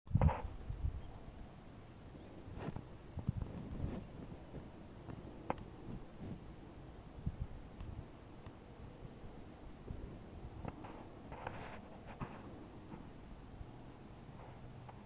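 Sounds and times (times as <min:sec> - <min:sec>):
constant high hum: 0:00.1 - 0:15.0.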